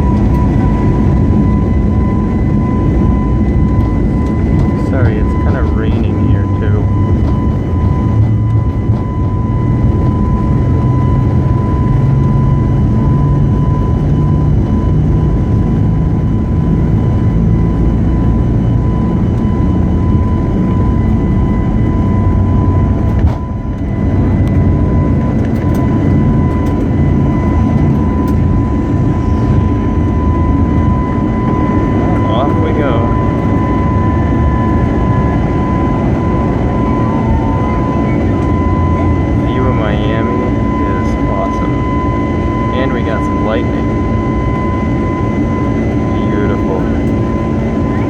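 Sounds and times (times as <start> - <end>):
high-pitched whine: 0.0 - 48.0
jet engines rumbling: 0.0 - 48.0.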